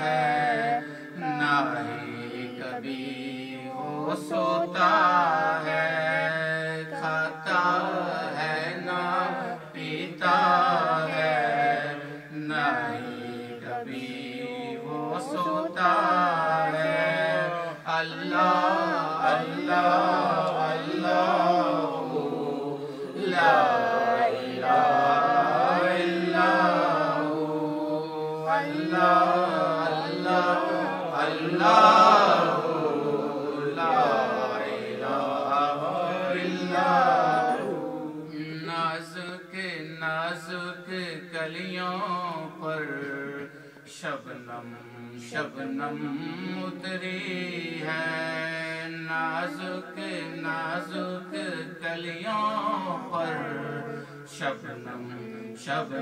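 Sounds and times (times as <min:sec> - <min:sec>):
man chanting devotional poetry: 0:00.0 - 0:56.0.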